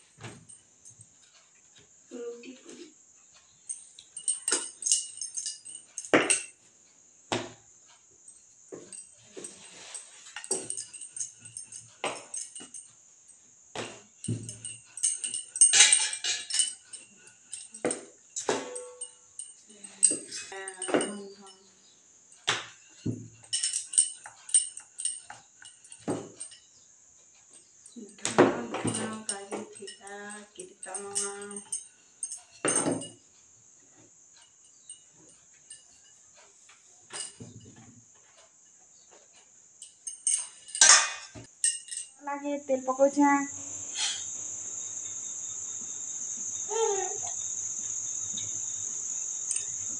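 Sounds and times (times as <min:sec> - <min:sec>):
bangles clinking: 0:02.7 - 0:06.7, 0:07.9 - 0:33.3, 0:34.2 - 0:49.9.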